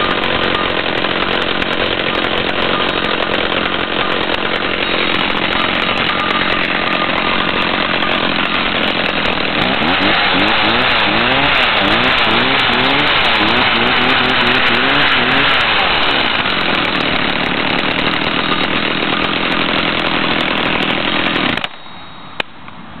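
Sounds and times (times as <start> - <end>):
chainsaw engine running: 0.0 - 22.4.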